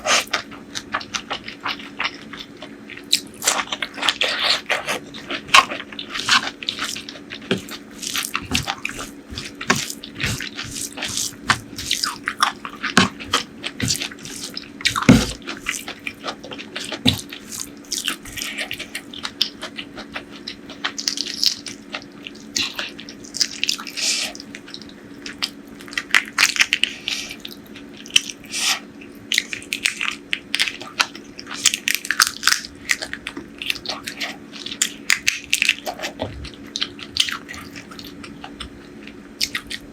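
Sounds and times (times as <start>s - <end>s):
faint steady hum: 0.0s - 39.9s
wet chewing and lip-smacking: 0.0s - 39.9s.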